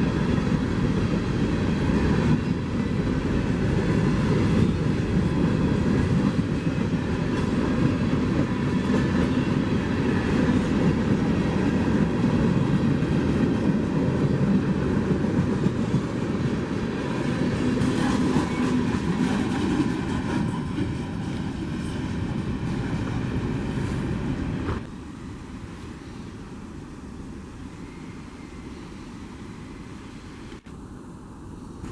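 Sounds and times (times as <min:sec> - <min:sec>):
train wheels on rails: 0:00.0 - 0:30.8.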